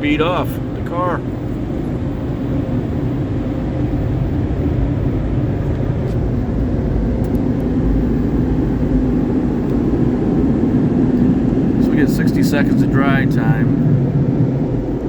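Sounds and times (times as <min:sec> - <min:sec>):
dryer blowers rushing air: 0:00.0 - 0:15.0.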